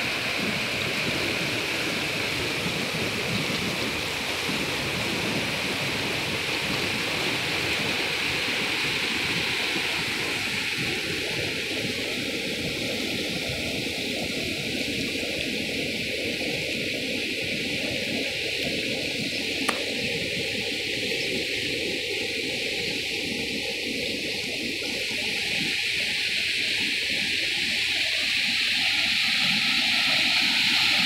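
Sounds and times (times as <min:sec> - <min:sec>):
floodwater rushing over rapids: 0:00.0 - 0:31.0.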